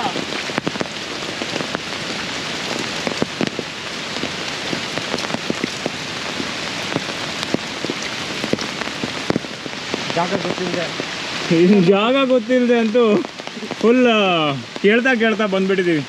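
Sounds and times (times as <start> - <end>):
raindrops ticking near microphone: 0.0 - 16.0
steady rain hiss: 0.0 - 16.0.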